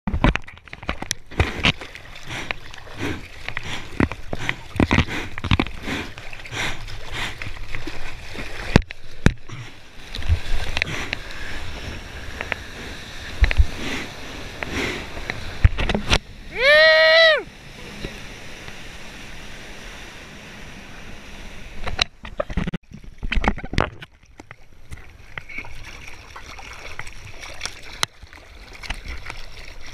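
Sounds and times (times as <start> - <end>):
water splashing against surfboard: 0.1 - 16.8, 21.3 - 29.9.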